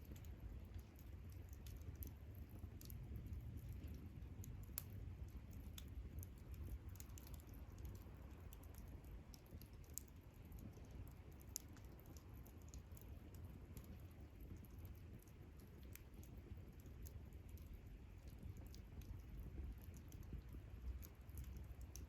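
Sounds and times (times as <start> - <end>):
campfire crackling: 0.0 - 22.0
low fire rumble: 0.0 - 22.0.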